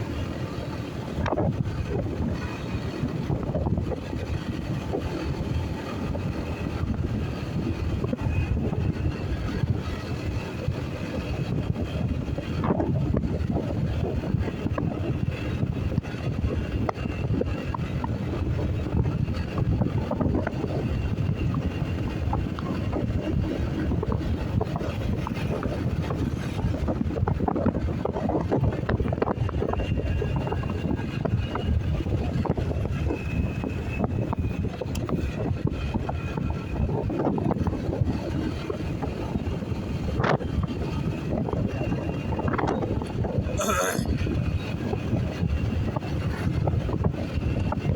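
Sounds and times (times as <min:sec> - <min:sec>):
road noise: 0:00.0 - 0:47.8
wind rushing over microphone: 0:00.0 - 0:47.9.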